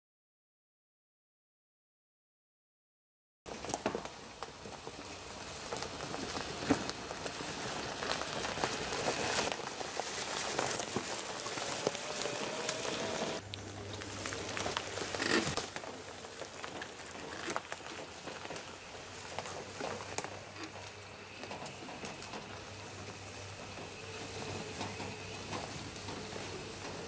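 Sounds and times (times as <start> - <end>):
seed pattering on dry leaves: 3.5 - 27.0
tyres rolling over leaves: 3.5 - 27.0.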